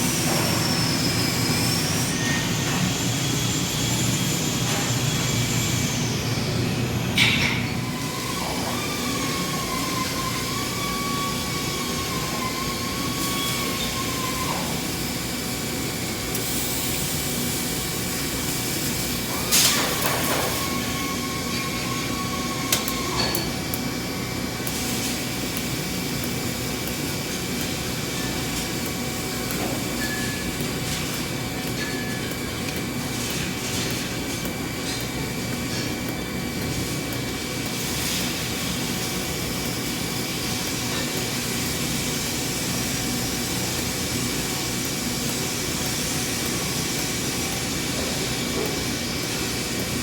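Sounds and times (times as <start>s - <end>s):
steady mechanical whir: 0.0s - 50.0s.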